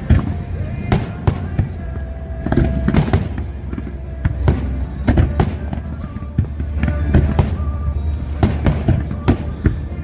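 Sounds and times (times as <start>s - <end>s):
continuous low rumble: 0.0s - 10.0s.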